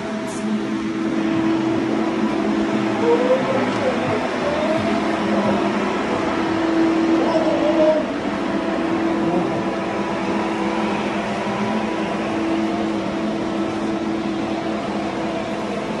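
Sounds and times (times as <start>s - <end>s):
paint sprayer humming and hissing: 0.0s - 16.0s.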